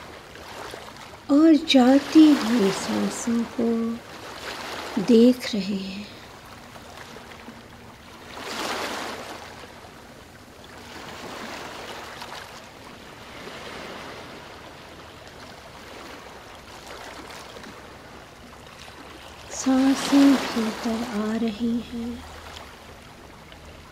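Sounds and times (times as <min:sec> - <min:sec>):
ocean waves breaking: 0:00.0 - 0:23.9.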